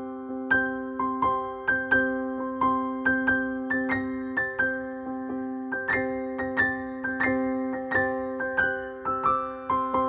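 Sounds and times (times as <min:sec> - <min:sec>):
soft electric piano melody: 0:00.0 - 0:10.0.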